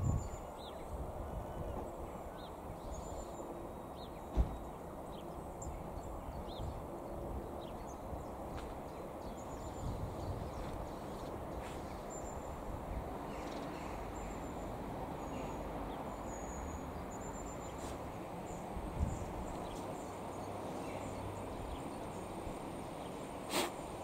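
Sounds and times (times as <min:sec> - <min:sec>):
birds chirping: 0:00.0 - 0:24.0
diesel train rumbling: 0:01.0 - 0:24.0.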